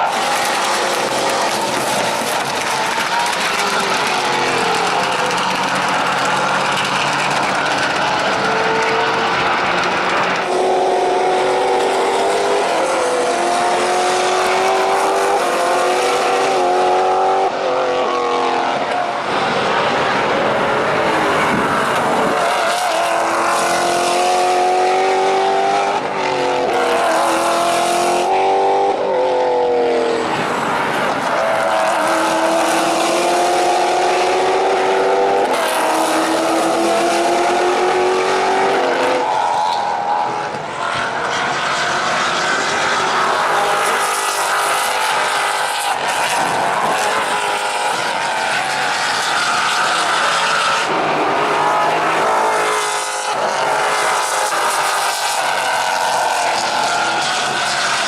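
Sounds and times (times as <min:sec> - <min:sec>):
race car engines at full throttle: 0:00.0 - 0:58.0.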